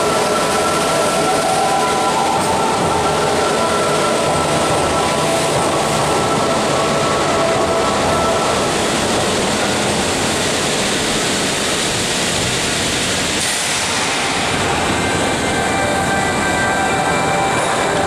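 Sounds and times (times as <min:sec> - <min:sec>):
subway train rushing: 0:00.0 - 0:18.0.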